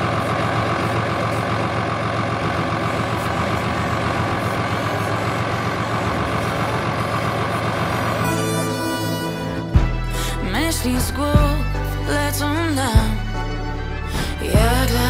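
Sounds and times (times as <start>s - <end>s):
tractor engine running steadily: 0.0s - 15.0s.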